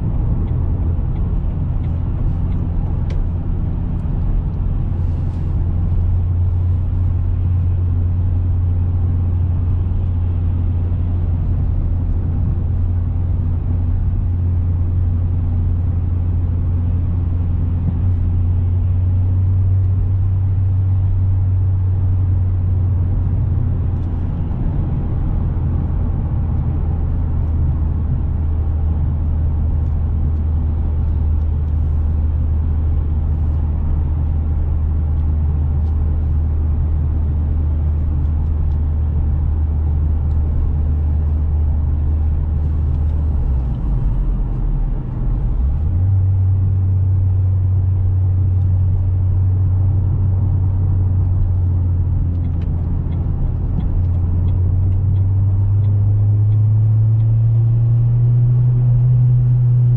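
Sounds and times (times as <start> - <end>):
car engine low drone: 0.0 - 59.9
road noise: 0.0 - 59.9.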